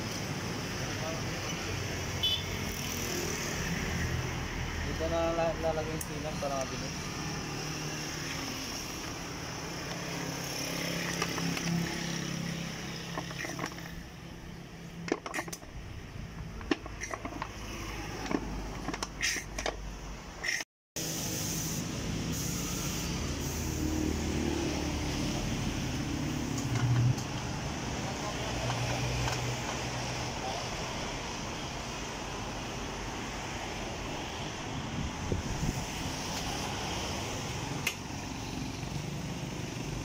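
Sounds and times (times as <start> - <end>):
road traffic hum: 0.0 - 40.0.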